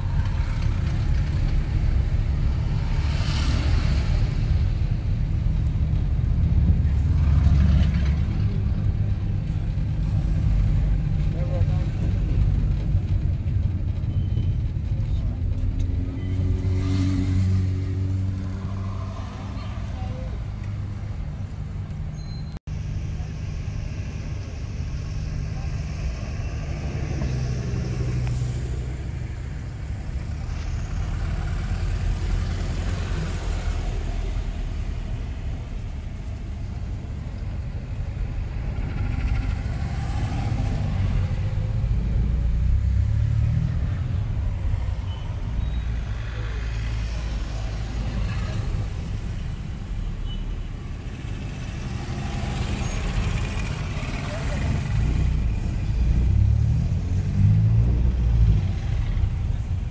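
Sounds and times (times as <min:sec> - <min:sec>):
car engine and tyres rumbling: 0:00.0 - 0:59.9
passing traffic: 0:00.0 - 0:59.9.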